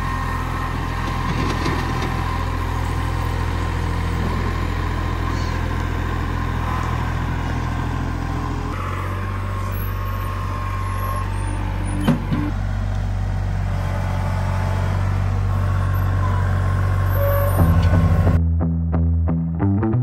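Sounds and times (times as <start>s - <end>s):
engine running steadily: 0.0s - 18.4s.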